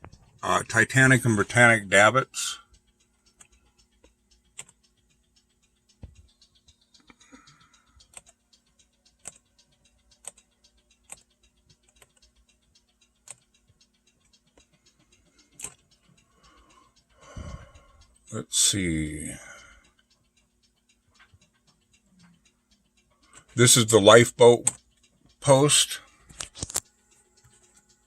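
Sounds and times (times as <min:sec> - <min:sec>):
faint clicks and ticks: 0:00.0 - 0:28.0.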